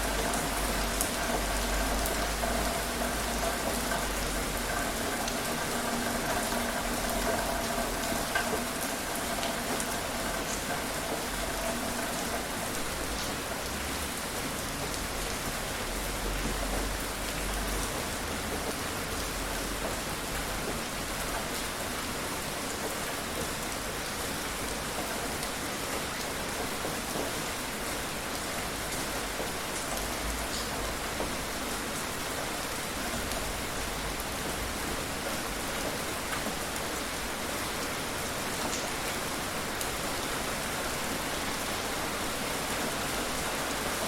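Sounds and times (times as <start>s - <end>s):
rain falling: 0.0s - 44.0s.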